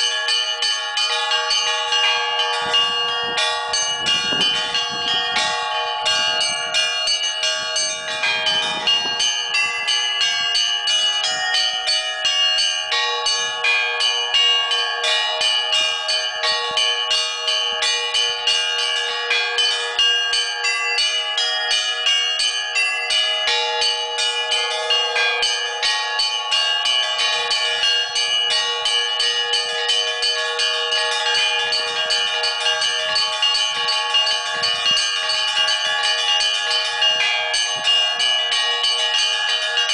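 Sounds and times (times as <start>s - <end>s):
large bells ringing: 0.0s - 39.9s
small high bells struck rapidly: 0.0s - 39.9s.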